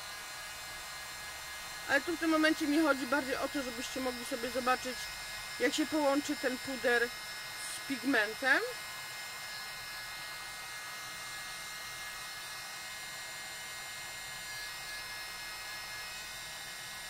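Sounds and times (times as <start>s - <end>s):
heat gun whirring: 0.0s - 17.0s.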